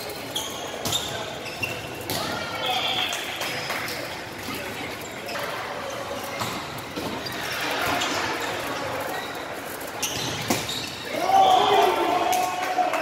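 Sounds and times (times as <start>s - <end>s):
echoing gym hall noise: 0.0s - 13.0s.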